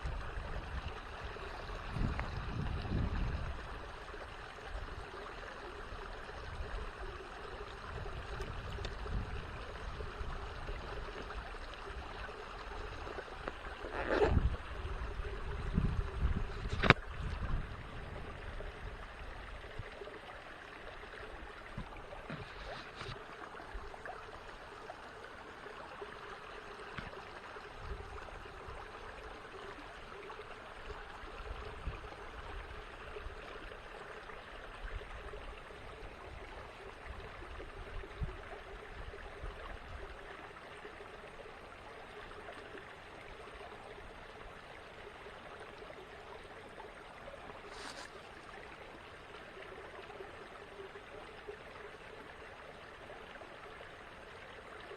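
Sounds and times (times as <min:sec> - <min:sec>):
creek water trickling: 0:00.0 - 0:54.9.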